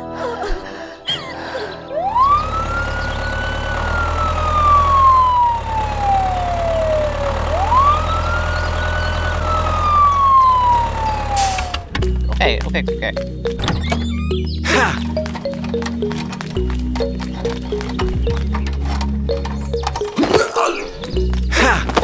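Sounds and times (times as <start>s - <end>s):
ambulance siren wailing: 1.4s - 22.0s.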